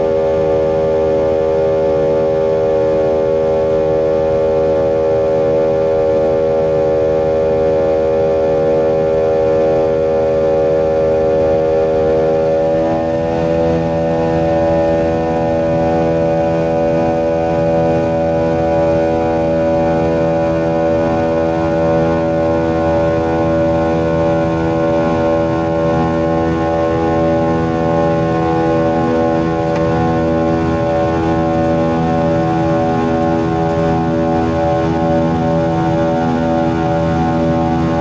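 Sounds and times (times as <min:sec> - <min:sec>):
jet engine buzzing drone in cabin: 0:00.0 - 0:38.0.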